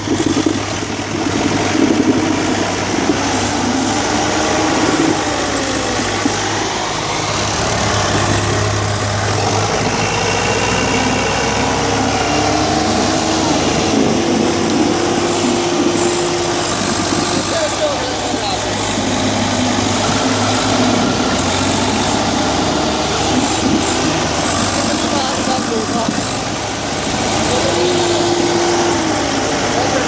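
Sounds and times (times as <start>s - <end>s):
diesel tractor engines under load: 0.0s - 30.0s.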